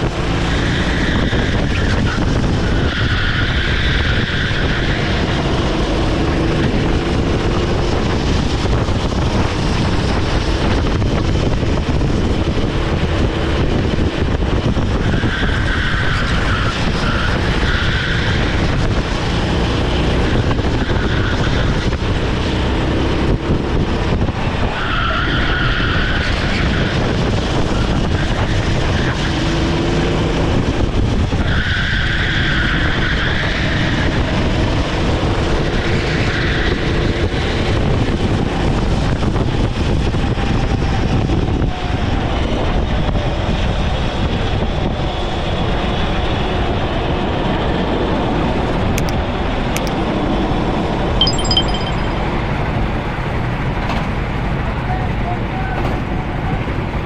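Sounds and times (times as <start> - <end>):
kart engine running hard: 0.0 - 51.1.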